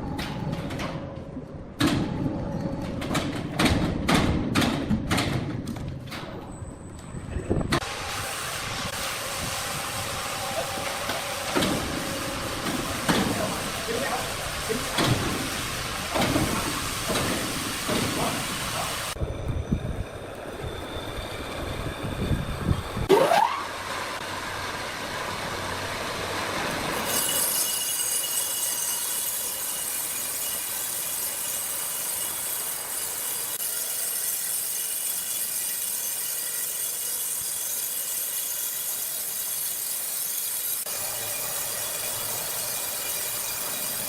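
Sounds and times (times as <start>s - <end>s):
sawmill machinery running: 6.9s - 44.0s
saw whining: 7.8s - 44.0s.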